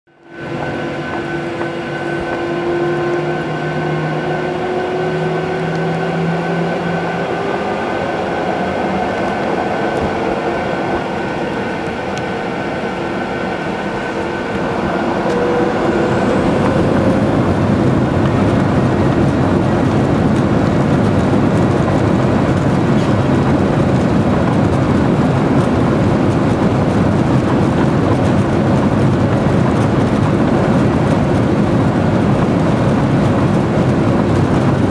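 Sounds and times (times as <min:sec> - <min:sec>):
jet engines heard from cabin: 0:00.1 - 0:34.9.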